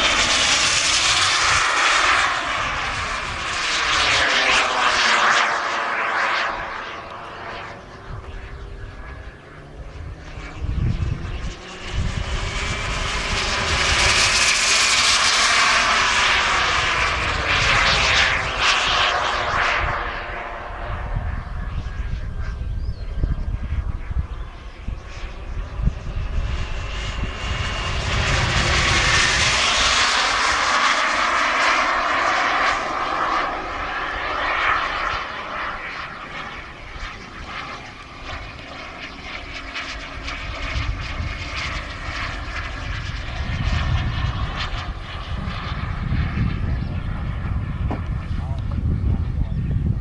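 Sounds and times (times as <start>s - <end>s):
jet turbine engine whine: 0.0s - 50.0s.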